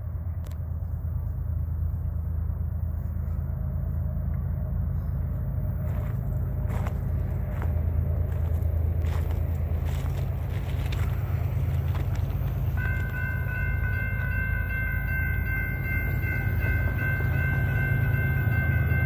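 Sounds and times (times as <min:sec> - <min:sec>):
distant engines rumbling: 0:00.0 - 0:19.0.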